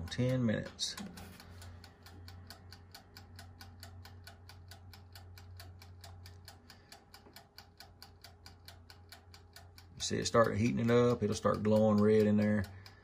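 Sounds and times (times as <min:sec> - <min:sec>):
low steady hum: 0:00.0 - 0:13.0
wind-up timer ticking: 0:00.0 - 0:13.0.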